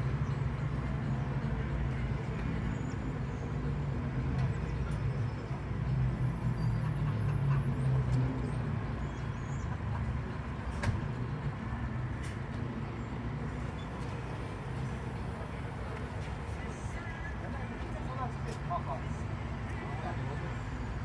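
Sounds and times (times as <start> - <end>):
bus engine running: 0.0 - 21.0
road rumble: 0.0 - 21.0.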